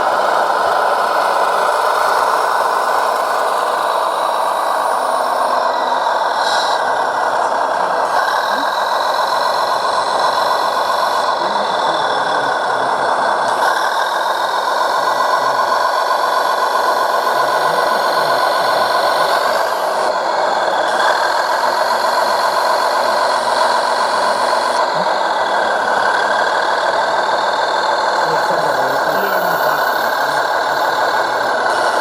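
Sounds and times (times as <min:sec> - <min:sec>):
simulated diesel engine from speaker: 0:00.0 - 0:32.0.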